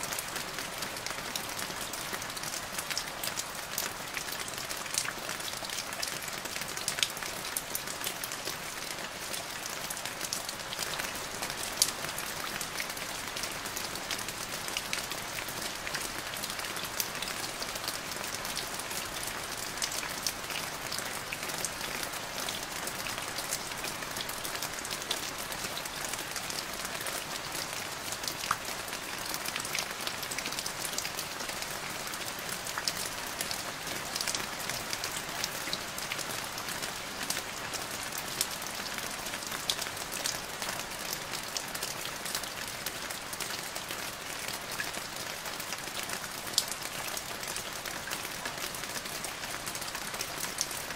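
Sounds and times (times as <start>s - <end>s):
rain splashing into a puddle: 0.0s - 50.9s.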